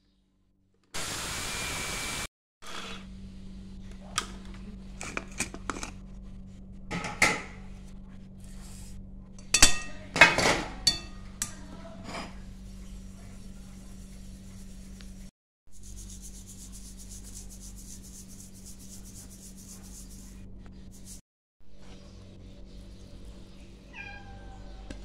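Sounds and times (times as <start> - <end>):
steady low hum: 3.0 - 24.0.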